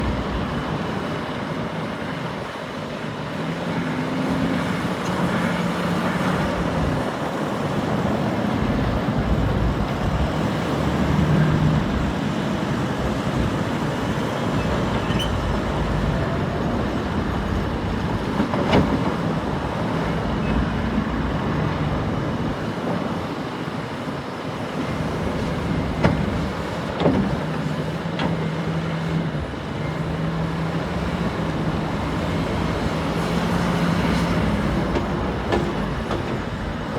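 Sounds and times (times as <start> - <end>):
excavator engine running: 0.0 - 36.9.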